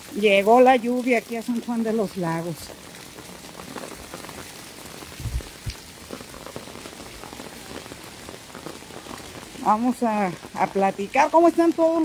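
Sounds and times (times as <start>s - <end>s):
rain on concrete street: 0.0s - 12.0s.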